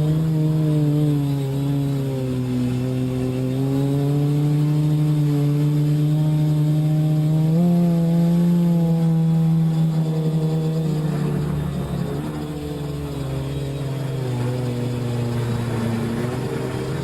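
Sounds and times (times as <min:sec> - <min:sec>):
drone motors droning: 0:00.0 - 0:17.0.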